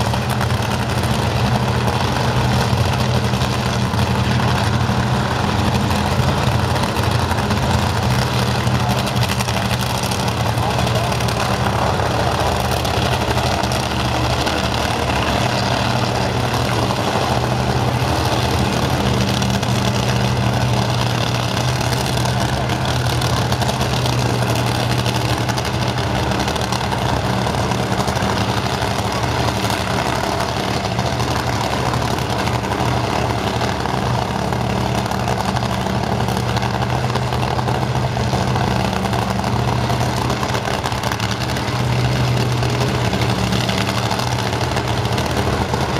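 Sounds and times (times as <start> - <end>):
race car engine idling: 0.0 - 45.9.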